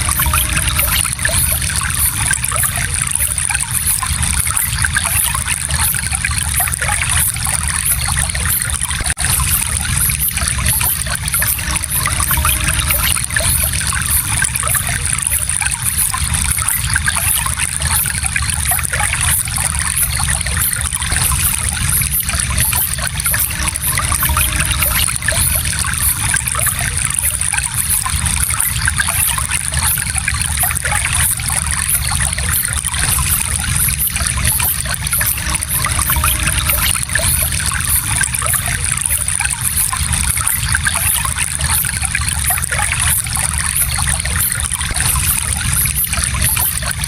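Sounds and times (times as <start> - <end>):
stream trickling over stones: 0.0 - 47.0.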